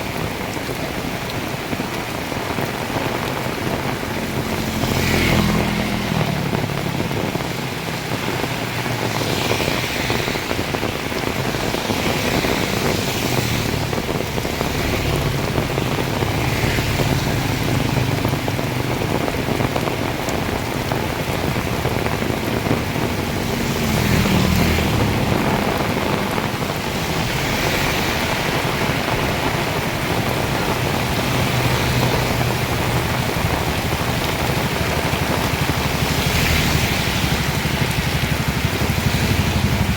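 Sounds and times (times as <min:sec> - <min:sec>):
heavy rain pouring: 0:00.0 - 0:39.9
vehicle engines passing by: 0:00.0 - 0:39.9.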